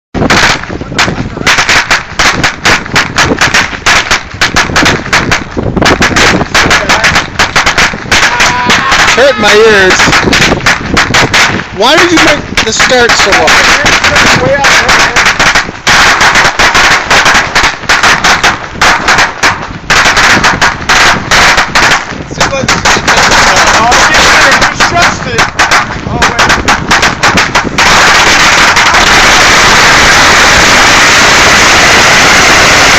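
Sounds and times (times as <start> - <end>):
firecrackers banging: 0.2 - 32.9.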